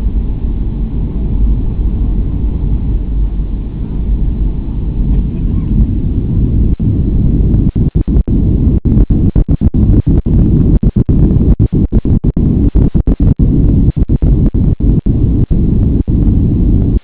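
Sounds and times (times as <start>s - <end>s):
jet airliner rumble: 0.0s - 17.0s.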